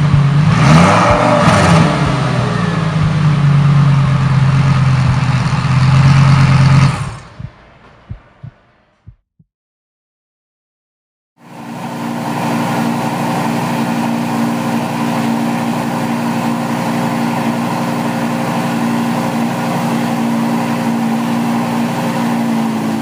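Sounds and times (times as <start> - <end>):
car engine idling: 0.0 - 9.1, 11.5 - 23.0.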